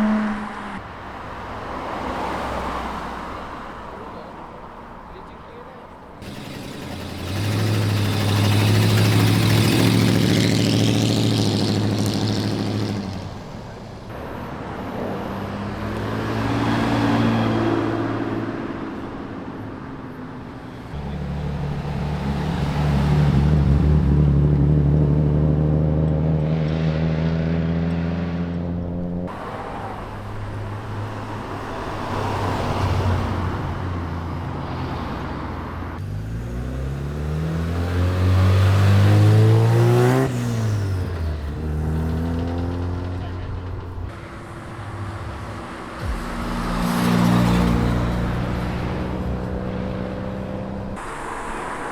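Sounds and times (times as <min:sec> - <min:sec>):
car engines revving and accelerating: 0:00.0 - 0:04.4, 0:06.2 - 0:51.9.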